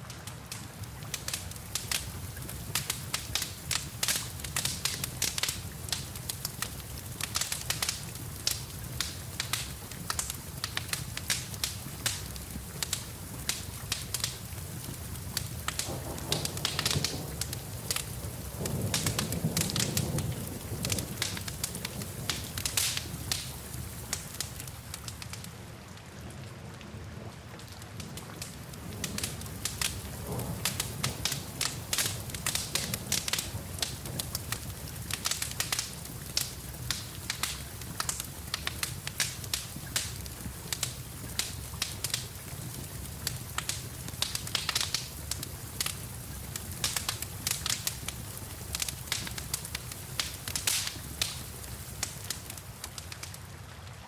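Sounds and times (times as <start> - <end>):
wood fire crackling and popping: 0.0 - 26.0, 27.5 - 54.0
steady rain: 0.0 - 54.0.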